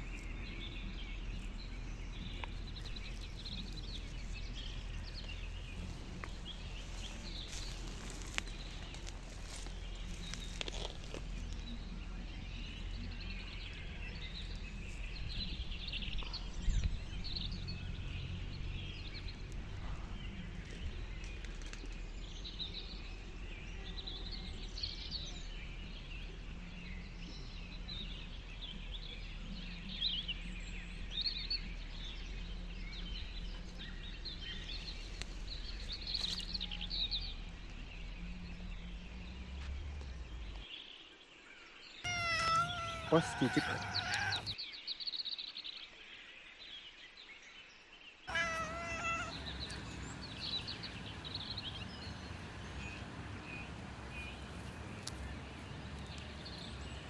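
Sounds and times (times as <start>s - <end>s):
low background rumble: 0.0s - 40.7s, 48.3s - 57.0s
small birds chirping: 0.0s - 57.0s.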